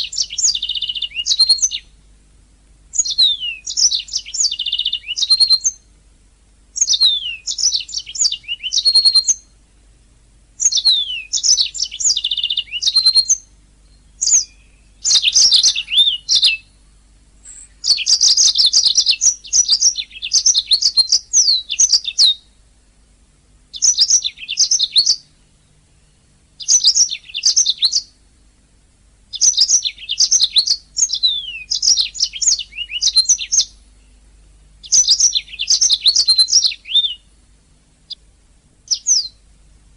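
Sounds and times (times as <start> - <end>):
canary singing: 0.0 - 2.0, 2.9 - 5.9, 6.7 - 9.6, 10.6 - 22.6, 23.7 - 28.6, 29.3 - 37.4, 38.0 - 39.4.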